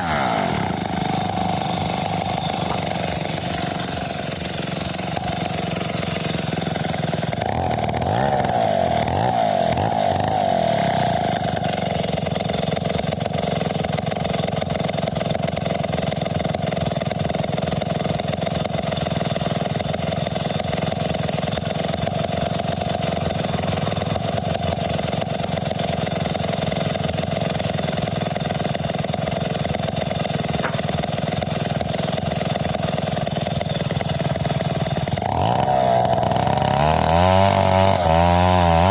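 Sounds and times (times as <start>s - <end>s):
chainsaw running: 0.0s - 38.9s.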